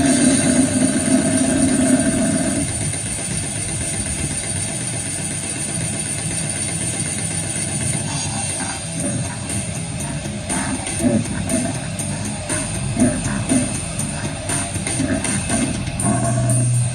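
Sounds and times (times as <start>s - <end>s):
dense distorted noise drone: 0.0s - 16.9s.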